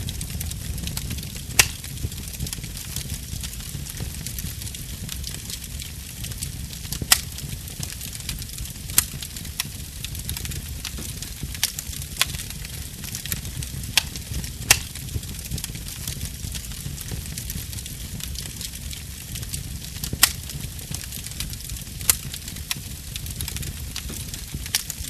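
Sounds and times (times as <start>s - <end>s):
sharp fire pops: 0.0s - 25.0s
wood fire crackling: 0.0s - 25.0s.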